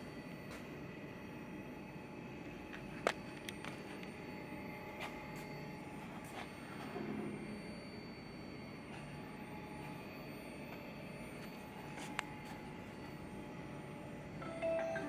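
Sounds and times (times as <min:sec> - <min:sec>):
faint high whining tones: 0:00.0 - 0:15.0
low machinery hum: 0:00.0 - 0:15.0.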